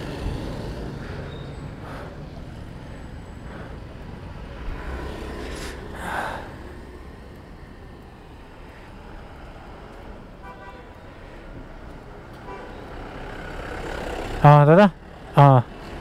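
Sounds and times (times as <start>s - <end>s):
vehicle engines rumbling: 0.0s - 16.0s.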